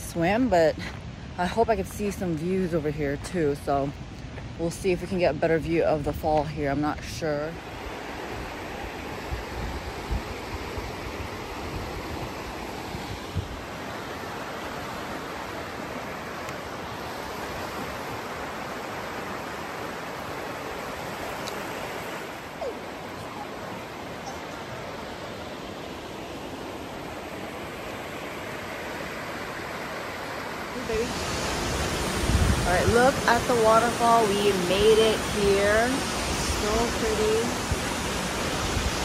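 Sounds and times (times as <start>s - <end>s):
creek rushing over rocks: 0.0s - 39.0s.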